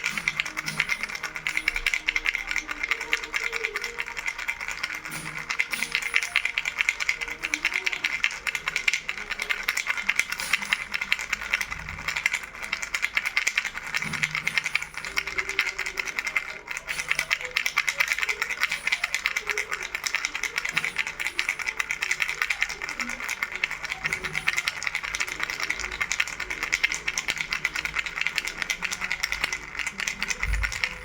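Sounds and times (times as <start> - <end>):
baby rattle shaken: 0.0 - 31.0.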